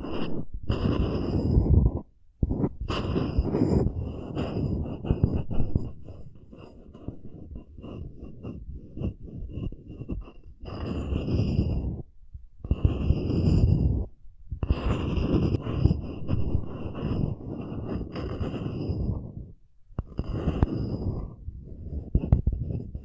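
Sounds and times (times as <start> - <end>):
scratching on wood: 0.0 - 12.1, 12.7 - 23.0.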